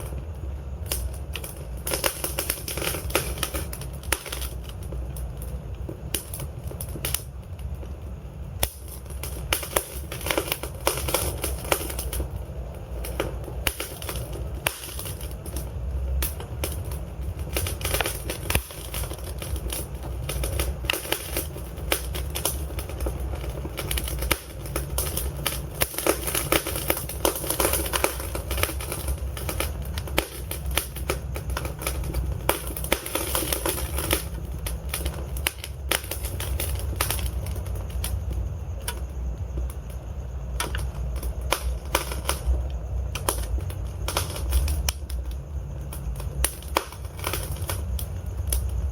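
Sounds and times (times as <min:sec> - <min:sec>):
logs crackling and popping: 0:00.0 - 0:48.9
low rumble of flames: 0:00.0 - 0:48.9.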